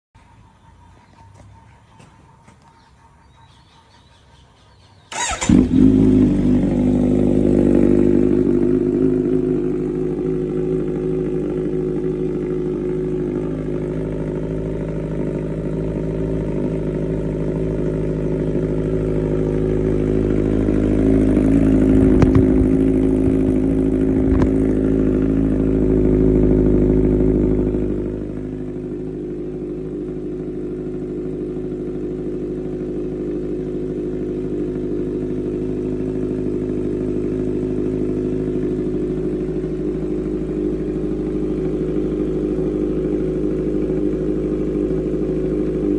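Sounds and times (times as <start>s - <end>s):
motorcycle engine idling burble: 0.2s - 45.9s.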